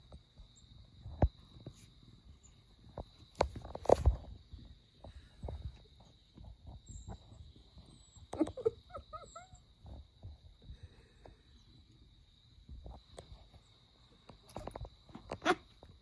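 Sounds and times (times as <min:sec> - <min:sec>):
cats pawing and shuffling: 0:00.0 - 0:16.0.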